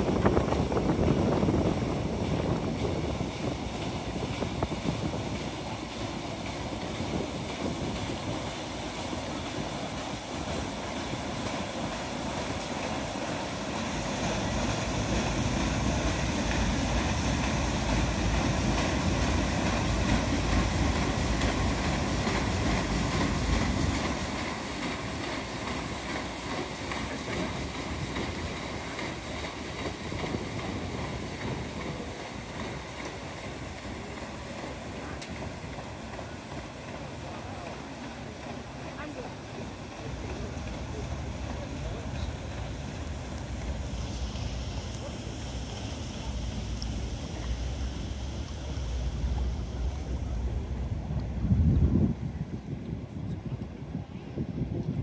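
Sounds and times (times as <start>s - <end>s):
steamer mechanical rumble: 0.0s - 55.0s.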